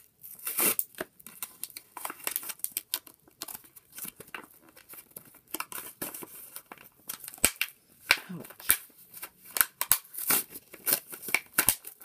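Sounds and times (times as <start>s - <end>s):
packaging crinkling and tearing: 0.2s - 12.0s.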